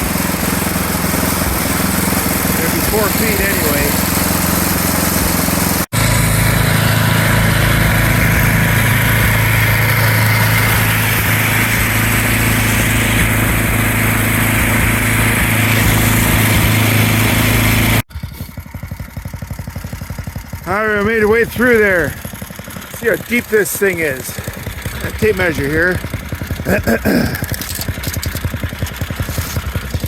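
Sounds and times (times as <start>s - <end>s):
snowblower engine running: 0.0s - 30.0s.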